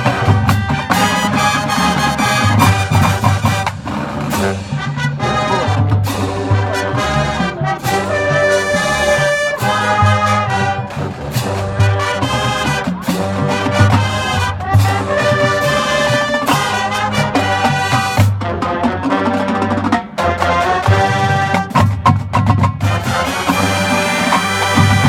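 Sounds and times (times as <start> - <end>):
marching band brass chords: 0.0 - 25.0
pulsing low brass line: 0.0 - 25.0.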